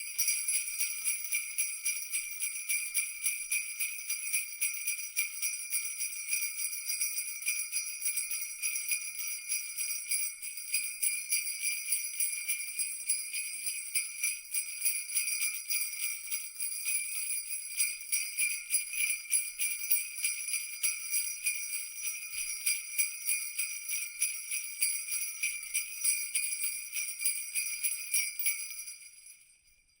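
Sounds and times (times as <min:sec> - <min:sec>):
jingle bells shaken: 0:00.0 - 0:30.0.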